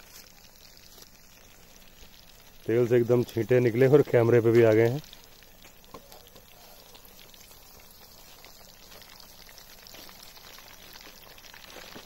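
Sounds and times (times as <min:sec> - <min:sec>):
oil sizzling and bubbling: 0:00.0 - 0:12.0.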